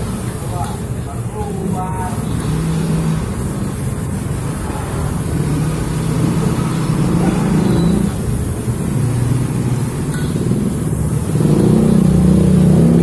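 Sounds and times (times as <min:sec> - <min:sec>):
vehicle engines in traffic: 0:00.0 - 0:13.0.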